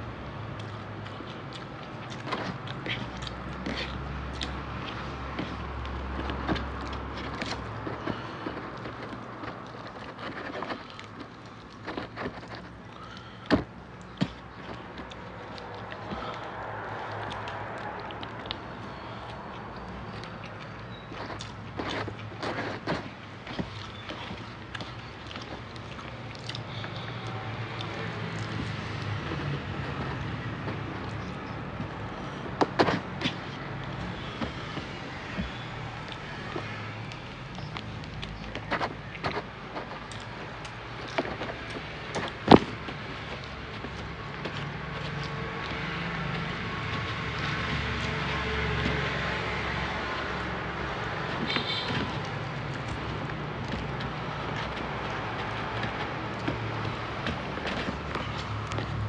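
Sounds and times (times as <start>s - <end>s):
chewing and mouth noises: 0.0s - 59.0s.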